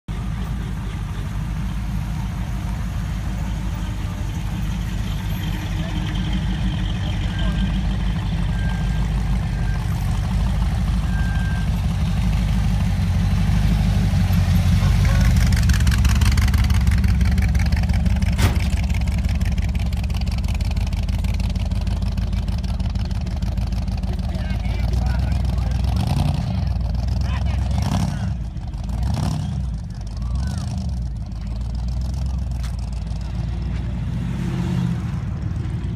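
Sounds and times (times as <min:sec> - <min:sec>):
car engine running: 0:00.1 - 0:34.1.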